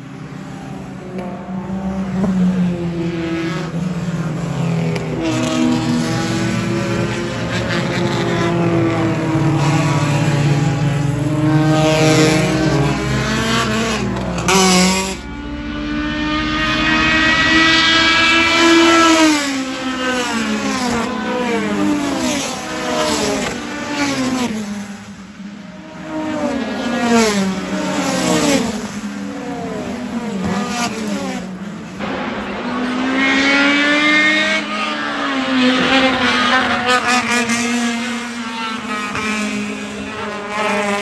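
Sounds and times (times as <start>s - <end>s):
race cars passing at speed: 0.0s - 41.0s.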